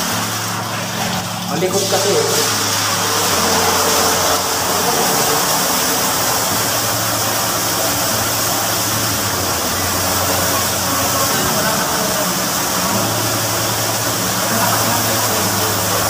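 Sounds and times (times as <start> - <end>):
water rushing into cistern: 0.0 - 16.0.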